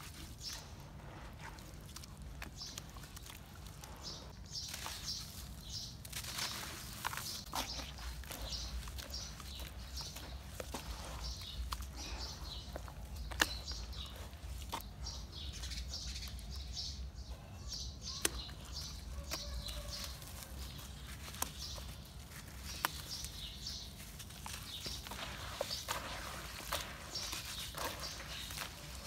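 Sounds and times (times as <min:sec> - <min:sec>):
wet cement paste squelching: 0:00.0 - 0:17.1, 0:18.0 - 0:29.0.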